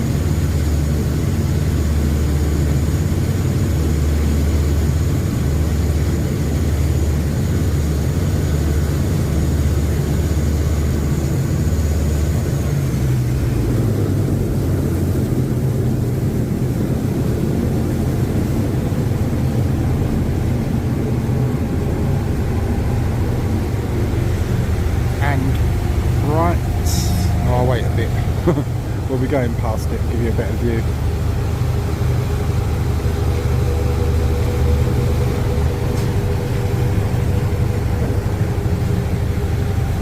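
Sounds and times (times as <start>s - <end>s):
boat engines droning: 0.0s - 40.0s
faint high whine: 0.0s - 40.0s.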